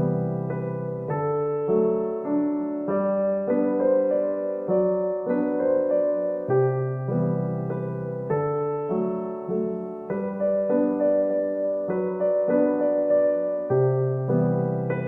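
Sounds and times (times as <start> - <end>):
gentle solo piano piece: 0.0 - 15.0.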